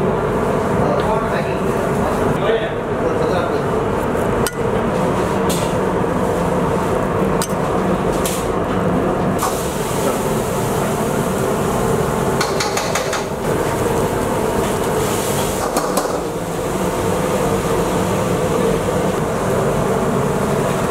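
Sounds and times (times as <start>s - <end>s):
gas stove and extraction hum: 0.0s - 20.9s.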